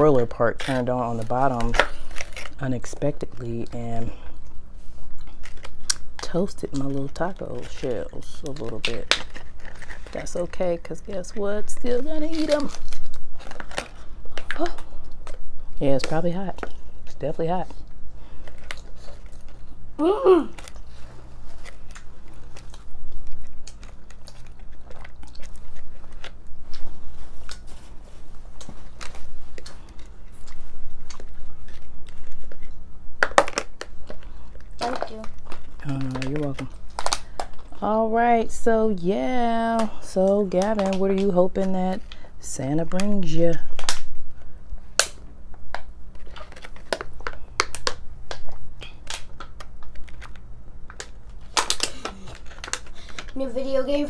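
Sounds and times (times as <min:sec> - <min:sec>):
taco shells crunching: 0:00.0 - 0:53.9
steady low hum: 0:00.0 - 0:54.0
taco shell cracking: 0:00.5 - 0:17.1, 0:18.2 - 0:27.7, 0:28.5 - 0:37.8, 0:42.9 - 0:53.3.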